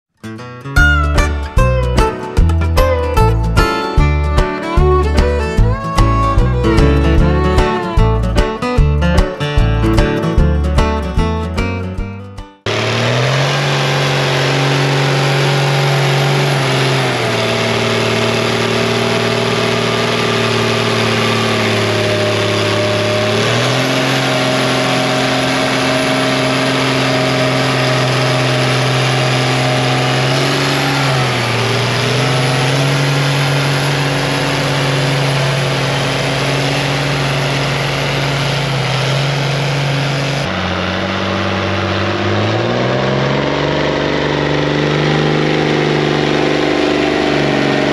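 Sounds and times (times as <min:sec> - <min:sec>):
tractor engine labouring: 0:00.2 - 0:47.9
second tractor engine revving: 0:00.8 - 0:12.0, 0:12.6 - 0:47.9.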